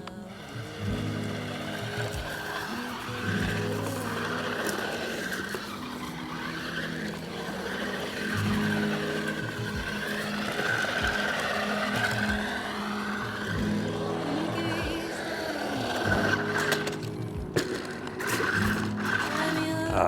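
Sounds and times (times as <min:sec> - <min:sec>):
leaves rustling under tires: 0:00.1 - 0:20.0
toy truck motor whining: 0:00.3 - 0:17.0, 0:17.6 - 0:19.8.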